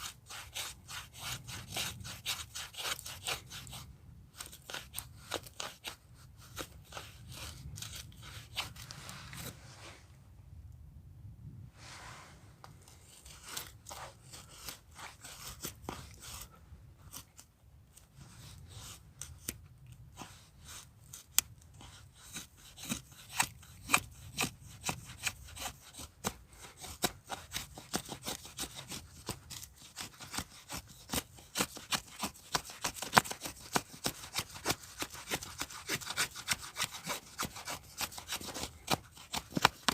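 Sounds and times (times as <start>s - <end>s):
blade scraping wood: 0.0s - 10.0s, 12.6s - 39.9s.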